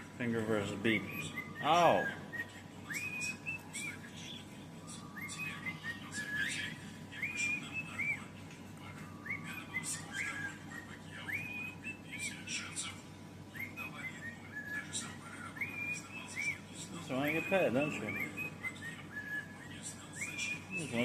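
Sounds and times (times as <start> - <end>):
cockatiel whistling: 0.0 - 21.0.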